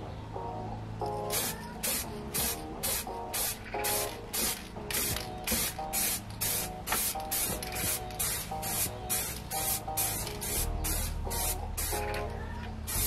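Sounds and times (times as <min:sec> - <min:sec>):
spray-paint can hissing: 0:01.1 - 0:13.0.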